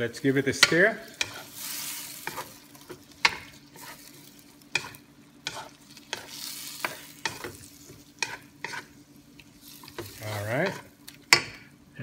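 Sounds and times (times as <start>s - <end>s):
wooden spatula scraping wok: 0.0s - 11.1s
light sizzle: 0.0s - 12.0s.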